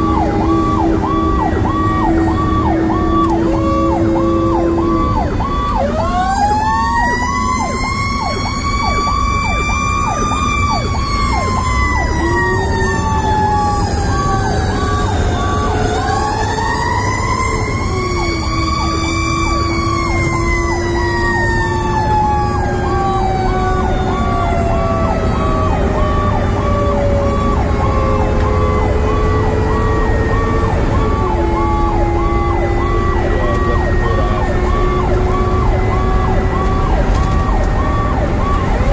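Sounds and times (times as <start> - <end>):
fire engine siren wailing: 0.0 - 38.9
truck road rumble: 0.0 - 38.9.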